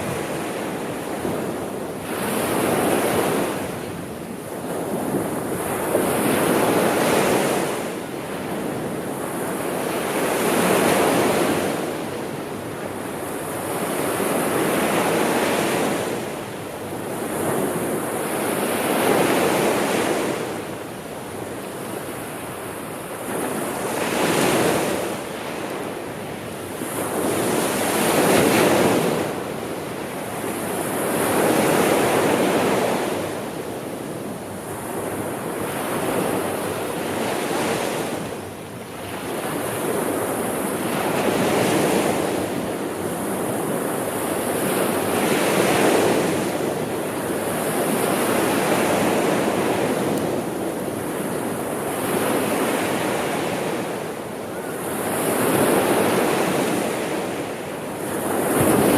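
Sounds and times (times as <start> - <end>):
waves breaking on shore: 0.0 - 58.9.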